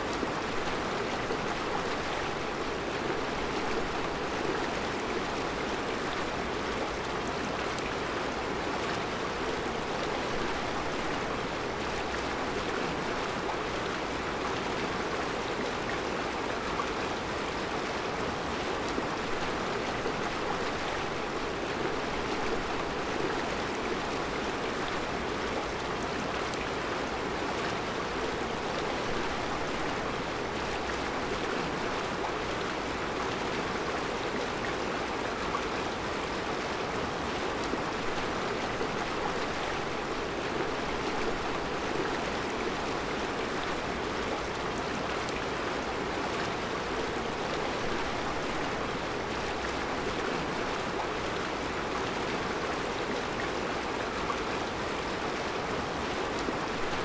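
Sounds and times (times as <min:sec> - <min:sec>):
river flowing over rocks: 0:00.0 - 0:57.0.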